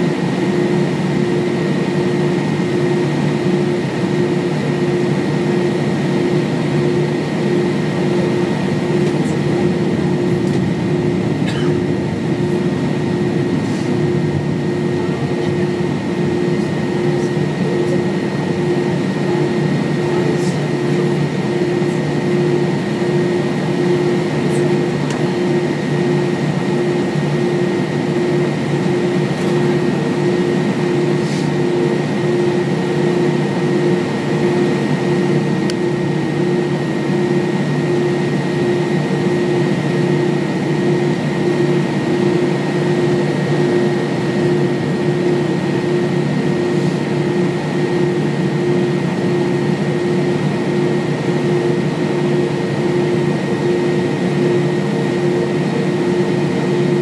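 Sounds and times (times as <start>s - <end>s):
jet engine drone: 0.0s - 57.0s.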